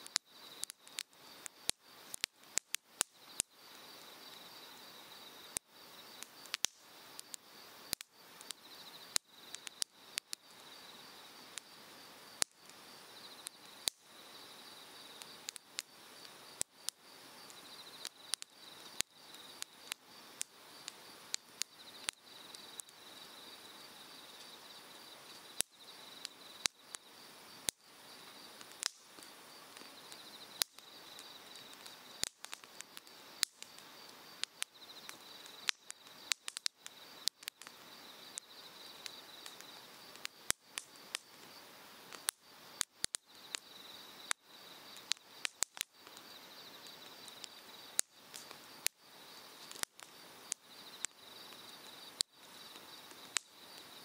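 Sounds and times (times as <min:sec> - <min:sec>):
firewood crackling and popping: 0:00.0 - 0:54.0
pulsing insect chirp: 0:00.0 - 0:54.0.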